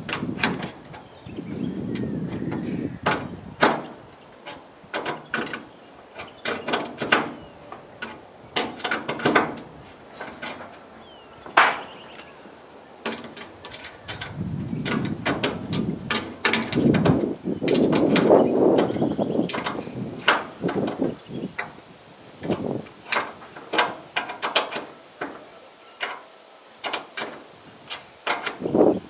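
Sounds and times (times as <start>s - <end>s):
knocks and clicks on metal rails: 0.0s - 1.1s, 1.9s - 11.9s, 13.0s - 21.8s, 22.4s - 28.8s.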